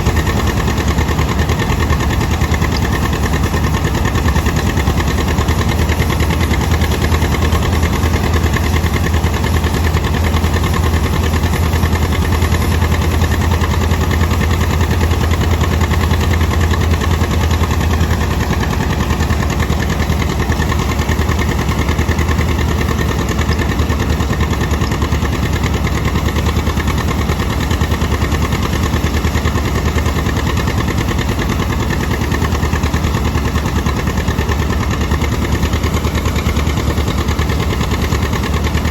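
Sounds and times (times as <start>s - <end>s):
old tractor engine running: 0.0s - 38.9s.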